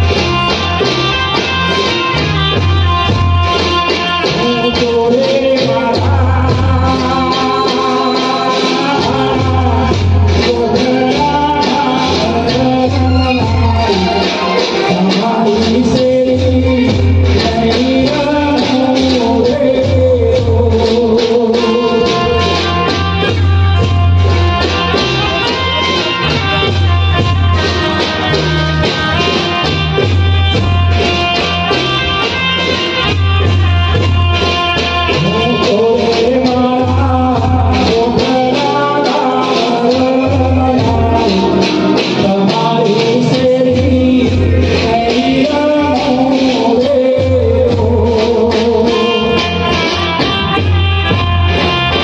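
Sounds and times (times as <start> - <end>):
bass line: 0.0 - 52.0
held instrument tones: 0.0 - 52.0
percussion strokes: 0.0 - 52.0
person singing: 0.0 - 52.0
sustained melody notes: 0.0 - 52.0.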